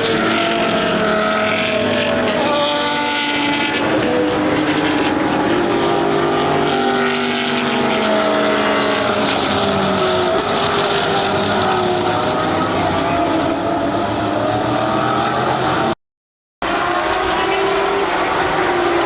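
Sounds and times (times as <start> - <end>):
race car engines running hard: 0.0 - 16.0, 16.6 - 19.0.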